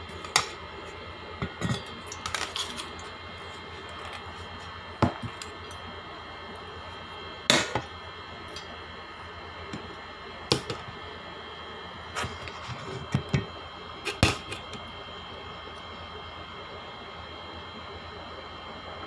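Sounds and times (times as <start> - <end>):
steady room hum: 0.0 - 19.0.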